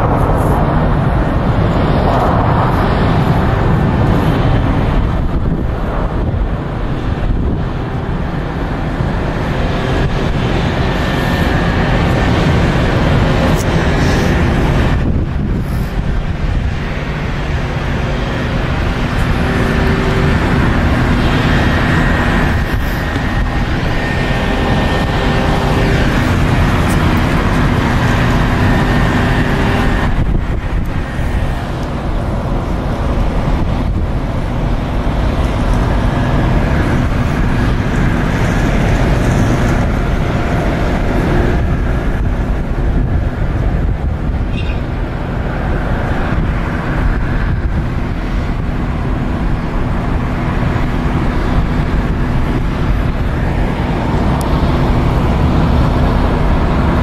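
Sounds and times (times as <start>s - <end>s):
jet engines running at low power: 0.0s - 57.0s.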